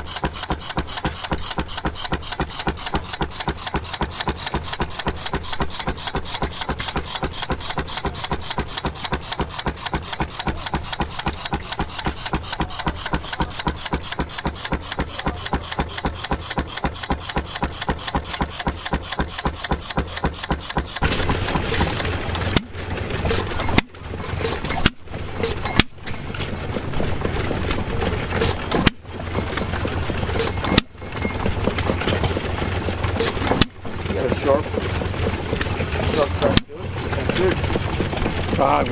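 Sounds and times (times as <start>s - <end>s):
gas engine running: 0.0s - 38.9s.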